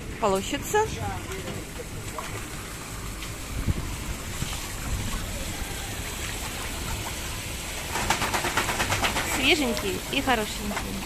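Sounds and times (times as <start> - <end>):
water churning and splashing: 0.0 - 11.0.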